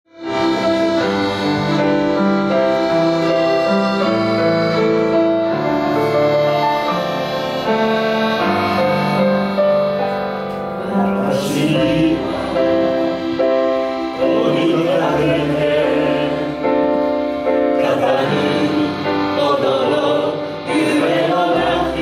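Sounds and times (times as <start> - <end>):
keyboard sustained chords: 0.1 - 22.0.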